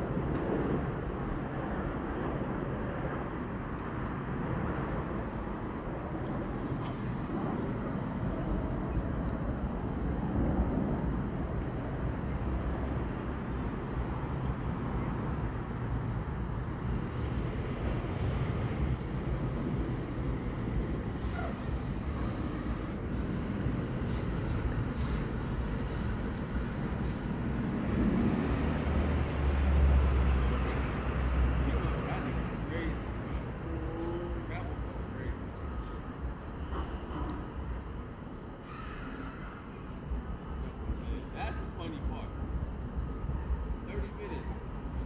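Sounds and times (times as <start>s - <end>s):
distant vehicle rumble: 0.0s - 45.0s.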